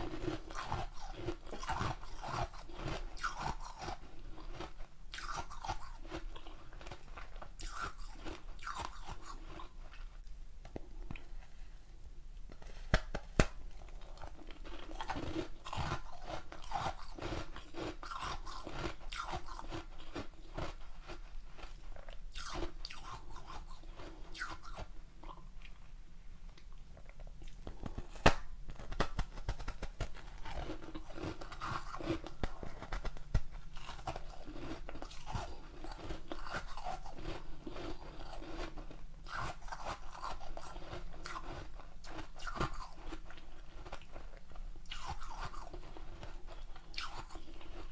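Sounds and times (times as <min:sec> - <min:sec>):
ice crunching while chewed: 0:00.0 - 0:11.4, 0:13.7 - 0:25.9, 0:26.5 - 0:47.9.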